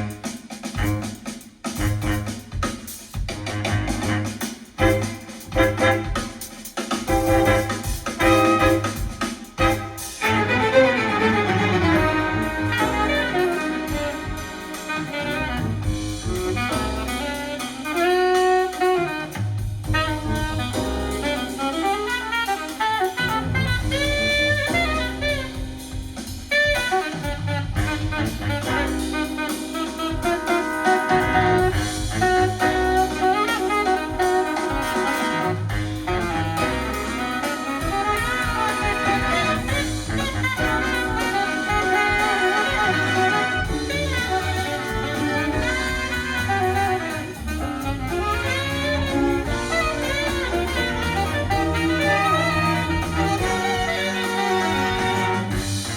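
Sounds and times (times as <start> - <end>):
jazz with saxophone and brass: 0.0 - 55.9.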